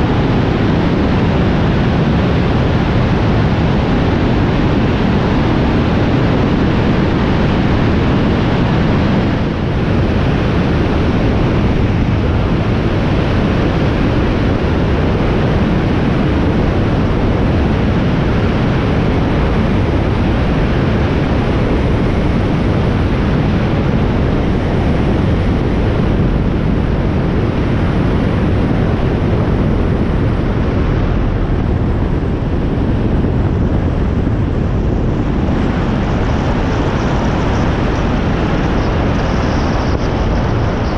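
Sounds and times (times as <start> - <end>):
light aircraft engine and propeller: 0.0 - 40.9
wind rushing over camera: 0.0 - 40.9.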